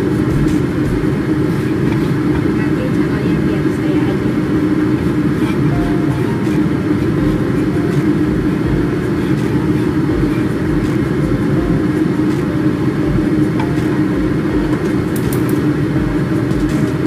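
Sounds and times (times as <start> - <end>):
extractor fan running: 0.0 - 17.0.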